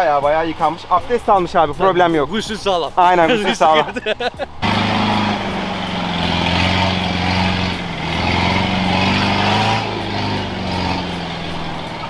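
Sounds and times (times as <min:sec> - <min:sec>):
off-road vehicle engine running: 0:01.3 - 0:12.0.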